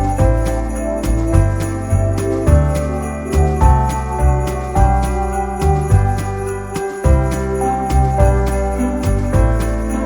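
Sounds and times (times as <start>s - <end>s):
christmas-style music: 0.0s - 10.0s
jingle bells shaking: 0.0s - 10.0s.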